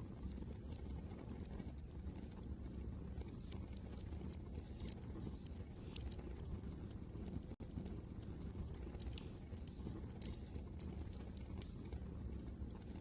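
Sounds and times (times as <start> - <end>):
low rumble of wind: 0.0 - 13.0
wood fire crackling: 0.0 - 13.0.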